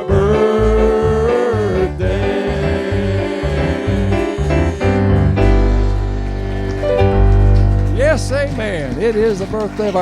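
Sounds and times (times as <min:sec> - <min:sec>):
piano and keyboard: 0:00.0 - 0:10.0
repeated bass notes: 0:00.0 - 0:10.0.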